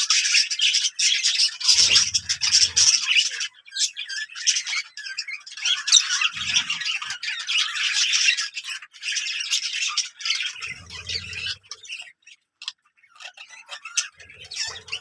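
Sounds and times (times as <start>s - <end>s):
birds squawking and chattering: 0.0s - 15.0s.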